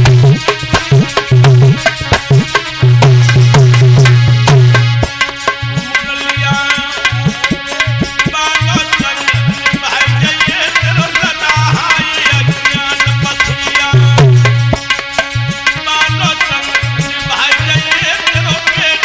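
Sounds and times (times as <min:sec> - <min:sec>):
sustained melody notes: 0:00.0 - 0:08.3, 0:09.1 - 0:17.2
hand drum rhythm: 0:00.0 - 0:19.0.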